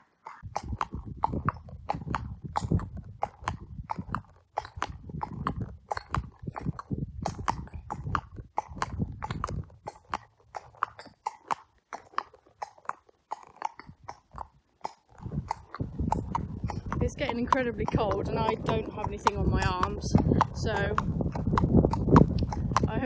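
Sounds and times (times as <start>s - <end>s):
horse hooves on wet road: 0.0s - 23.0s.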